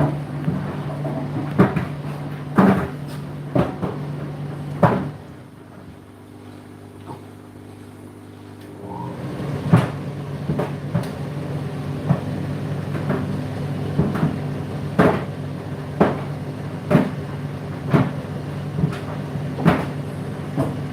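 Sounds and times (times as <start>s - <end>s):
washing machine motor hum: 0.0s - 20.9s.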